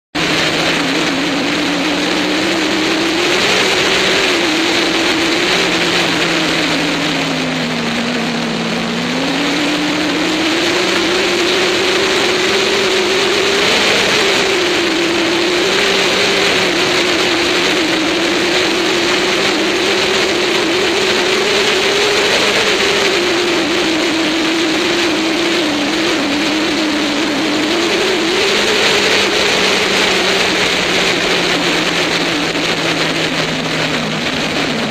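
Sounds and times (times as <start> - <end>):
motorcycle engine revving: 0.0 - 34.9
wind rush on camera: 0.2 - 34.9.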